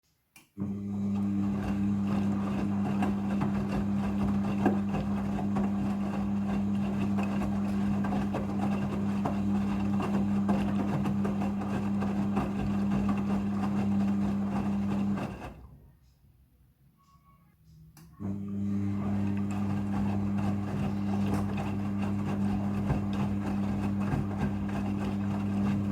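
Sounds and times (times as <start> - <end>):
washing machine churning: 0.6 - 15.8, 18.2 - 25.9.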